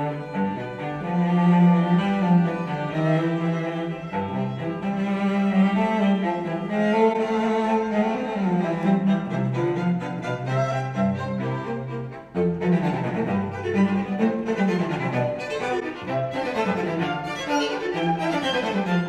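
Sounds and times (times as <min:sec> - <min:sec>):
classical string music over speakers: 0:00.0 - 0:19.0.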